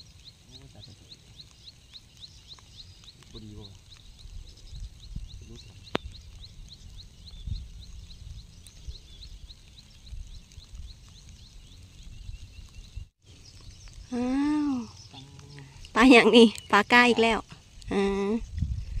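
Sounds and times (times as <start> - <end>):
wind rumble on microphone: 2.7 - 16.0, 16.9 - 19.0.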